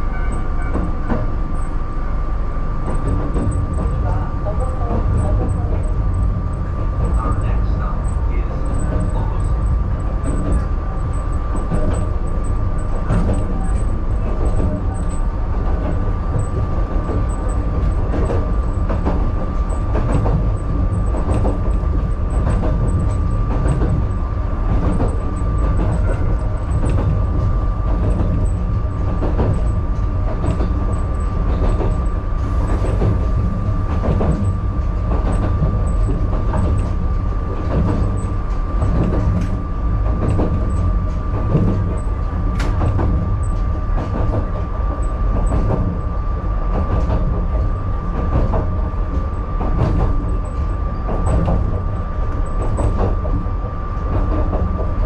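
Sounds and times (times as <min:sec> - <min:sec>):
low rumble of train wheels: 0:00.0 - 0:55.0.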